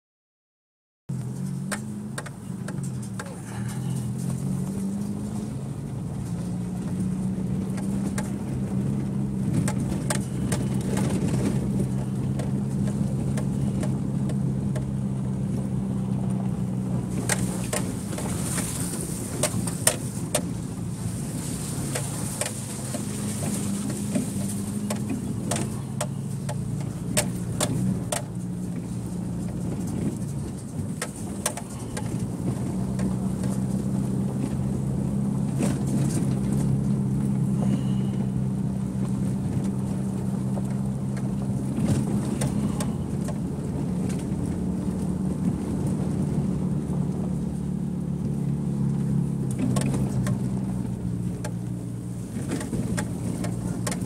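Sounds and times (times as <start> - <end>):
car engine running: 1.1 - 54.0
car knocking and rattling over bumps: 1.1 - 54.0.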